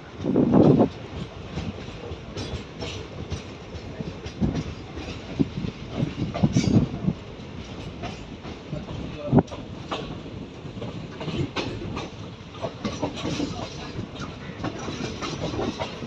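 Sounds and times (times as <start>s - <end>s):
train coaches rumbling on track: 0.0s - 16.0s
wheels clacking over rail joints: 0.0s - 16.0s.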